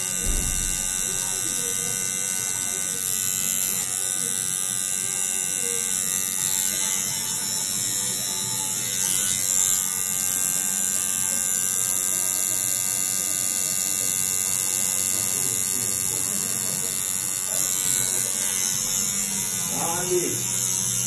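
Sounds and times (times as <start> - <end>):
tattoo machine buzzing: 0.0 - 21.0.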